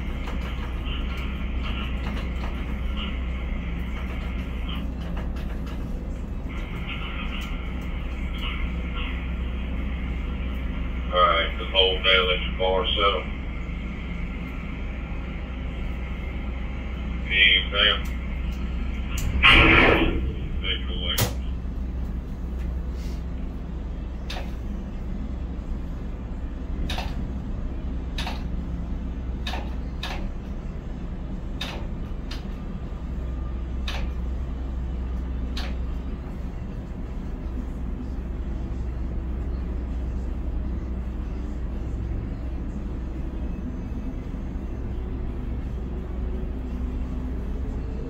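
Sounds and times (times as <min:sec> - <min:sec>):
crane machinery droning: 0:00.0 - 0:48.0.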